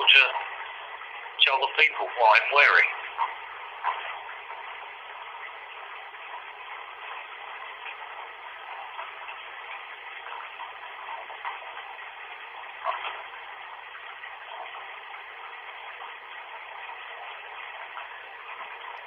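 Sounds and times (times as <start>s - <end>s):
bath tap running: 0.0s - 19.0s.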